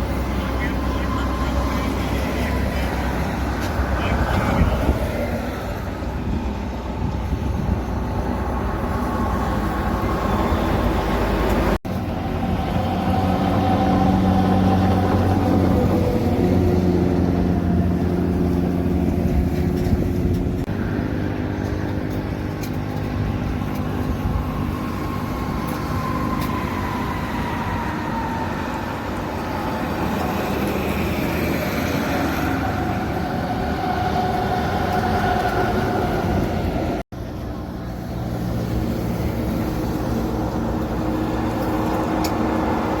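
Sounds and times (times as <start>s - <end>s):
engine drone of passing vehicle: 0.0s - 43.0s
heavy vehicles passing: 0.0s - 43.0s.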